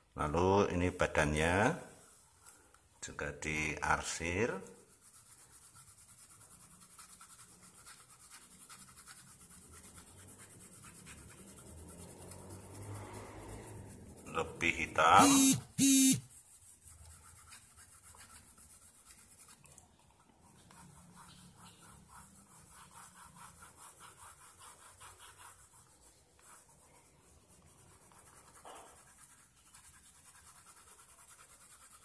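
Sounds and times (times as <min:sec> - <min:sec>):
pencil scratching on paper: 0:04.0 - 0:32.0.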